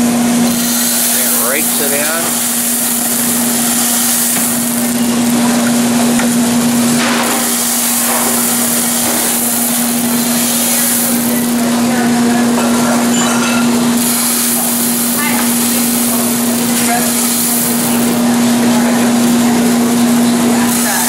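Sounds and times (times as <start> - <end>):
motor hum and fan air: 0.0 - 21.0
roasted beans rattling: 0.3 - 21.0.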